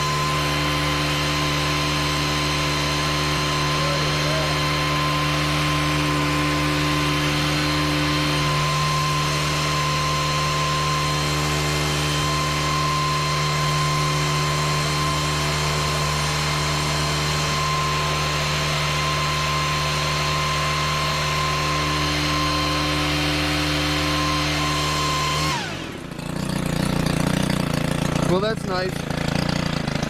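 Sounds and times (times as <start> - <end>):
leaf blower engine running: 0.0 - 30.0.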